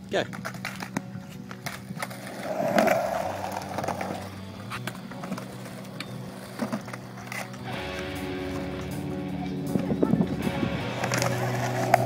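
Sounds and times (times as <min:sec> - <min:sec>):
skateboard wheels rolling on concrete: 0:00.0 - 0:12.0
skateboard clacks: 0:00.2 - 0:12.0.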